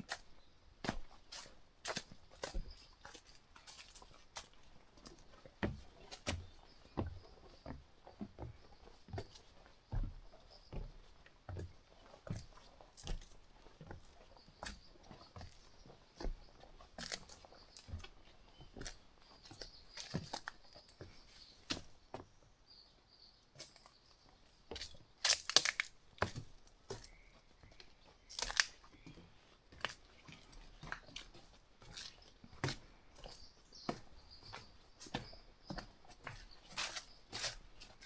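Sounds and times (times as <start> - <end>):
footsteps crunching on a trail: 0.0 - 22.5, 23.6 - 38.0.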